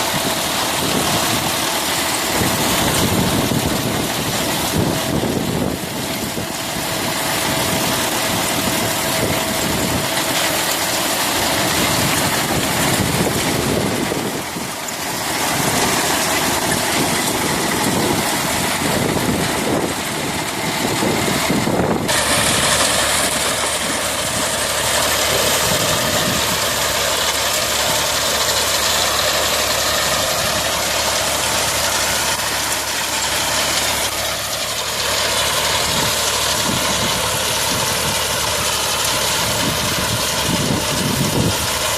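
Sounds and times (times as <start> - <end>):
dense mechanical noise: 0.0 - 41.9
tractor engine running: 0.0 - 41.9.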